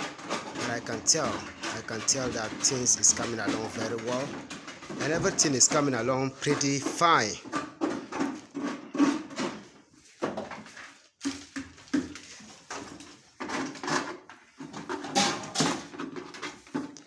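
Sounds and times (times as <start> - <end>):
hand tools clattering and scraping: 0.0 - 17.0.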